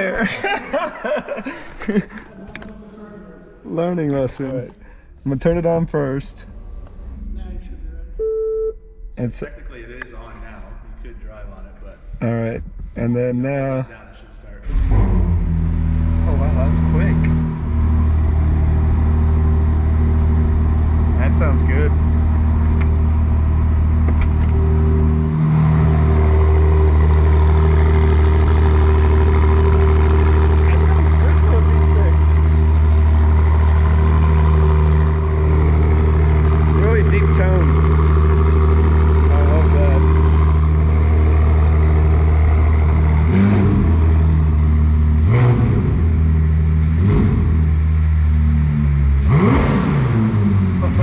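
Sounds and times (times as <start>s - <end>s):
car engine idling: 4.7s - 51.0s.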